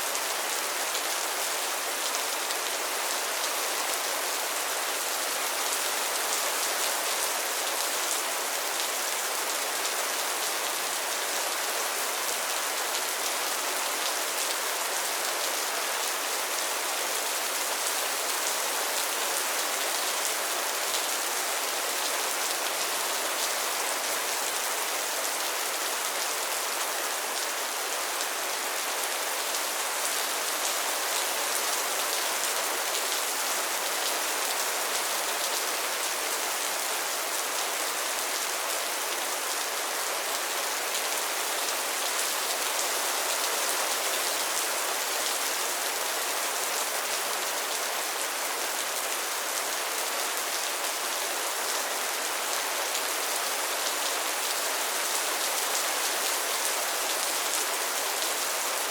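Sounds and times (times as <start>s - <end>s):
rain falling on pond water: 0.0s - 58.9s.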